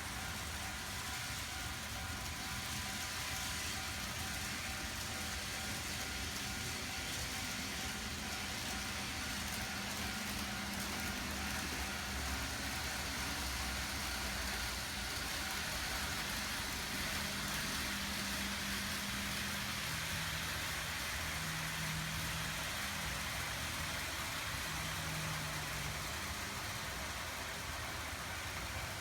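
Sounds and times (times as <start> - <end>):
model train motors humming: 0.0 - 29.0
wheels rolling on rails: 0.0 - 29.0.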